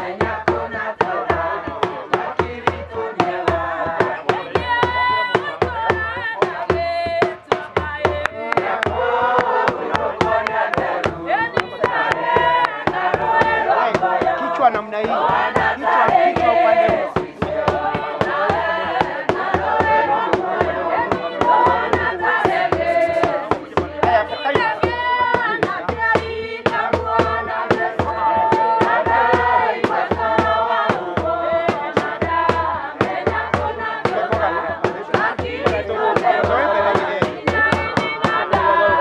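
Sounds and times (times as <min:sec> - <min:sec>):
choir singing: 0:00.0 - 0:39.0
steady beat: 0:00.0 - 0:39.0.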